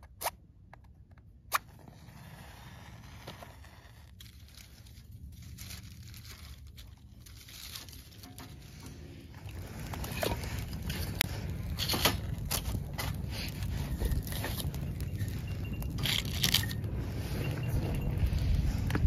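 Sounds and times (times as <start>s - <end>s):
fire crackling and popping: 1.5s - 19.0s
low rumble: 2.0s - 19.0s.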